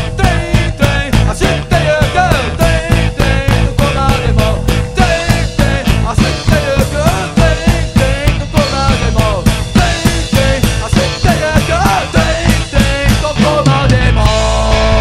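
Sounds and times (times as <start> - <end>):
distorted electric guitars: 0.0 - 15.0
drum kit beat: 0.0 - 15.0
electric bass: 0.0 - 15.0
punk rock band playing: 0.0 - 15.0.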